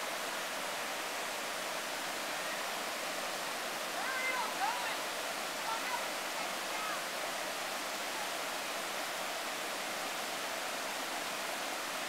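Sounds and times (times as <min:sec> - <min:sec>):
river water rushing over boulders: 0:00.0 - 0:12.0.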